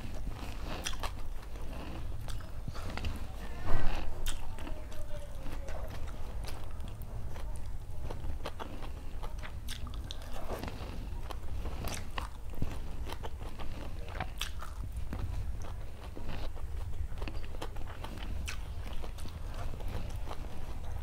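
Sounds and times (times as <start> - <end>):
person chewing food: 0.0 - 21.0
steady low hum: 0.0 - 21.0.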